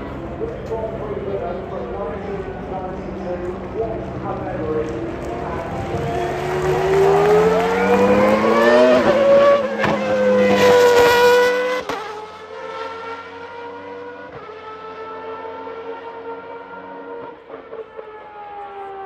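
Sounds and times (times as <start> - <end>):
racing car engine at high revs: 2.1 - 19.0.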